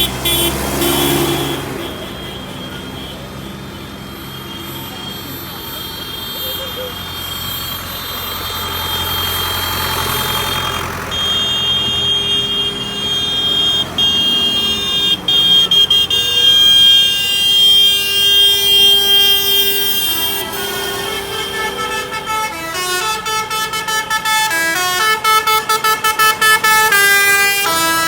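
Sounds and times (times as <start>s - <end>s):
tractor engines rumbling: 0.0s - 28.0s
vehicle horn blasts: 0.0s - 28.0s.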